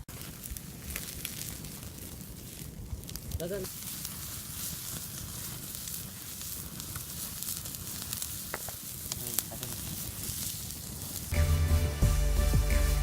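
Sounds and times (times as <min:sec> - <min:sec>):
sharp crackles: 0:00.0 - 0:11.4
chicken sizzling over open fire: 0:00.0 - 0:11.5.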